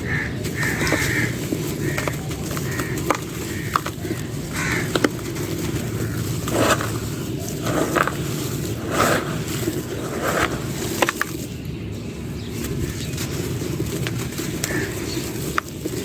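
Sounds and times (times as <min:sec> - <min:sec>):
dry clay crumbling: 0:00.0 - 0:16.0.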